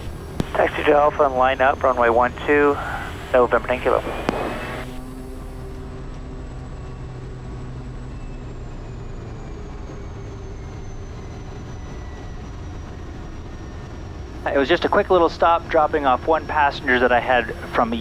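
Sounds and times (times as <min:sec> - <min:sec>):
high turbine whine: 0:00.0 - 0:18.0
turboprop engine drone: 0:00.0 - 0:18.0.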